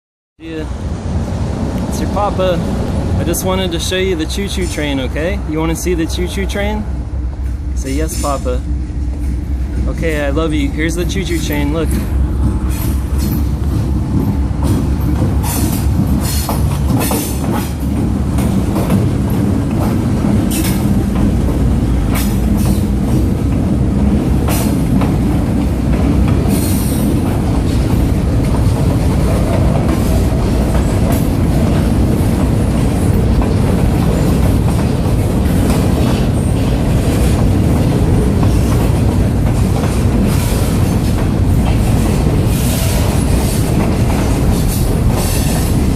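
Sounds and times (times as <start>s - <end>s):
train wheels rumbling on rails: 0.5s - 45.9s.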